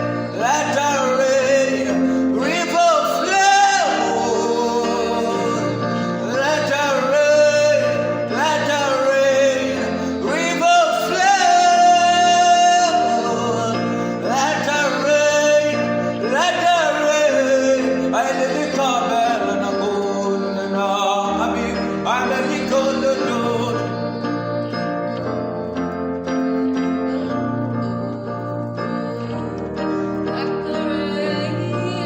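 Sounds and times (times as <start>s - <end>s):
instrumental backing: 0.0s - 32.0s
person singing gospel song: 0.0s - 32.0s.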